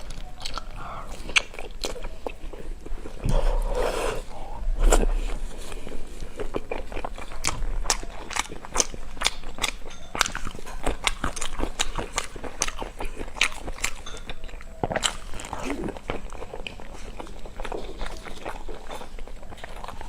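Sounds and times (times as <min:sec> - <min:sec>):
close chewing with crunchy clicks: 0:00.0 - 0:20.0.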